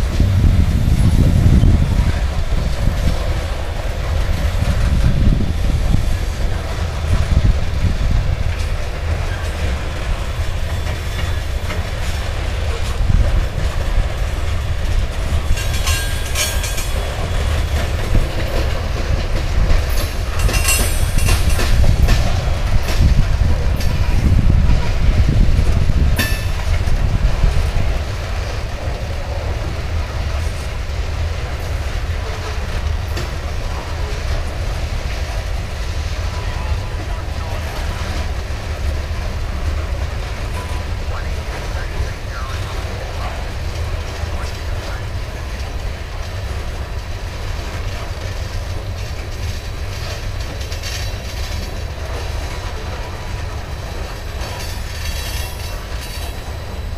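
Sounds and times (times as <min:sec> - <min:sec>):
freight train rumbling past: 0:00.0 - 0:56.9
wheels clattering on rails: 0:00.0 - 0:56.9.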